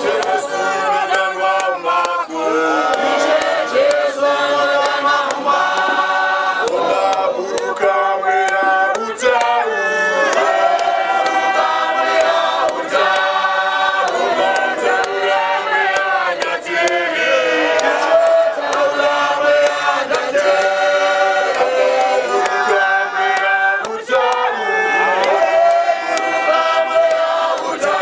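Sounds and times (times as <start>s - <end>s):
choir singing a hymn: 0.0s - 28.0s.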